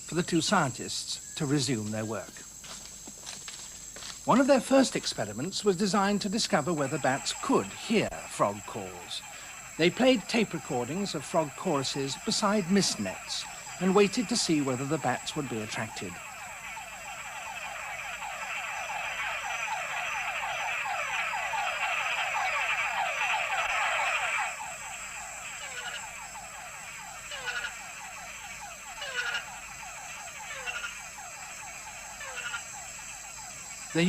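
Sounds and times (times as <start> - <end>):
frogs calling with falling whines: 0.0 - 34.0.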